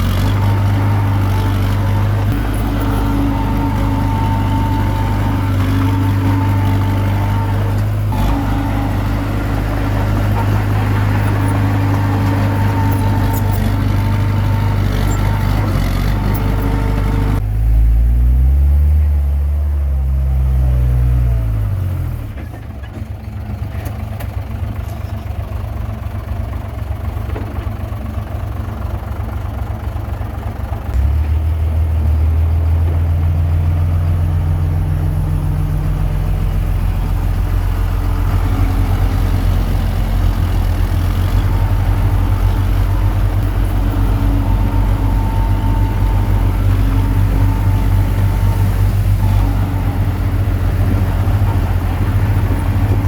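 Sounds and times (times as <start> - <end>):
bulldozer diesel engine working: 0.0 - 53.0.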